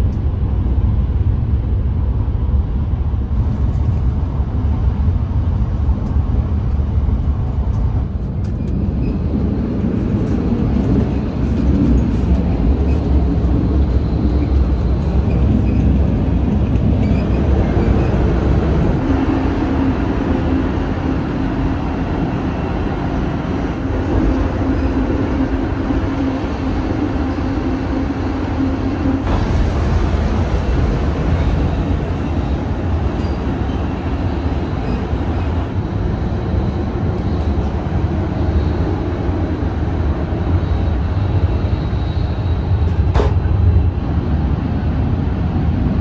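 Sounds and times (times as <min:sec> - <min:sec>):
train interior rumble: 0:00.0 - 0:46.0.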